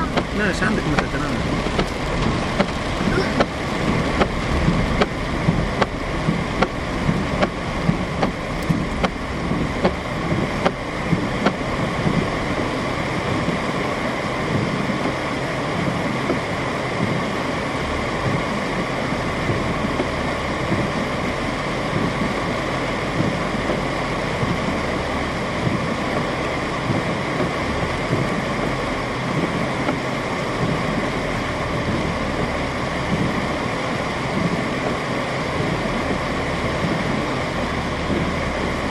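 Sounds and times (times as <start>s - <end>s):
heavy rain: 0.0s - 38.9s
running water: 0.0s - 38.9s.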